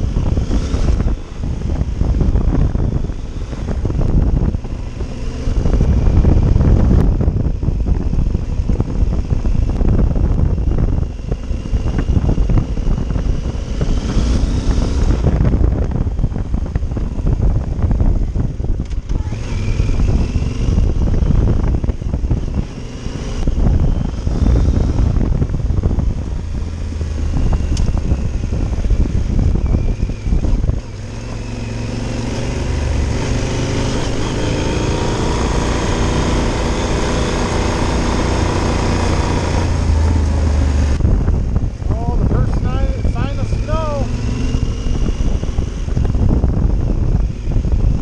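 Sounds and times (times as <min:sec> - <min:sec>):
knocks and rattles over rough road: 0:00.0 - 0:48.0
motorcycle engine running: 0:00.0 - 0:48.0
wind rush: 0:00.0 - 0:48.0.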